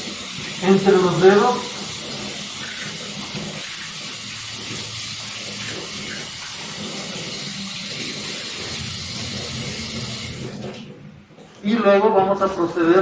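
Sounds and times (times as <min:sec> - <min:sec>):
tap water running into sink: 0:00.0 - 0:11.6.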